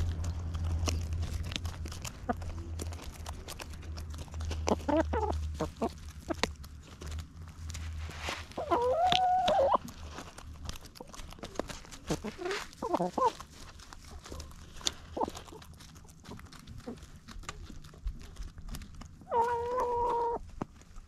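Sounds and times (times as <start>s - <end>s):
hens clucking: 1.8s - 6.8s, 7.9s - 18.3s, 19.0s - 21.0s.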